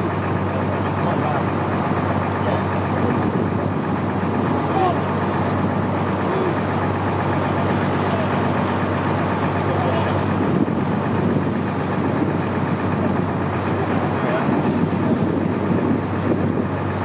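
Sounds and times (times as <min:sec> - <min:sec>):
motorboat engine droning: 0:00.0 - 0:17.0
water noise: 0:00.0 - 0:17.0
wind: 0:00.0 - 0:17.0.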